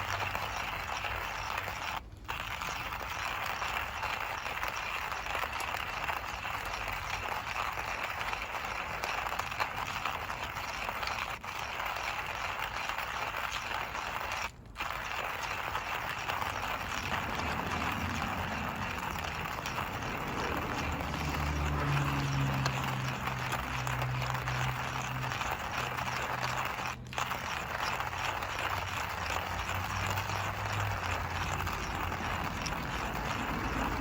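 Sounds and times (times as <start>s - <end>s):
hand coffee mill grinding beans: 0.0s - 34.0s.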